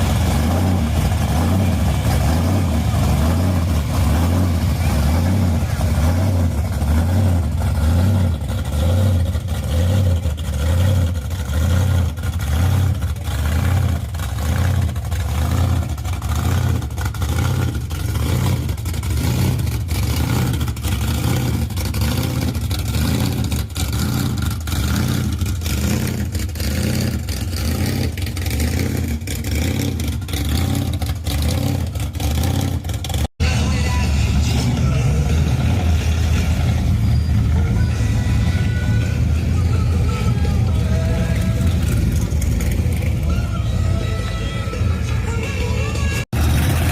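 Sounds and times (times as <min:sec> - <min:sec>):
car engines with loud exhausts: 0:00.0 - 0:46.9.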